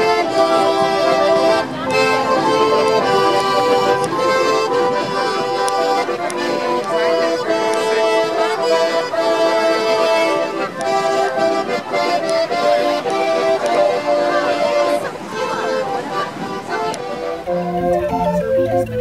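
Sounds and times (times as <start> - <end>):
concertinas playing chords: 0.0 - 19.0.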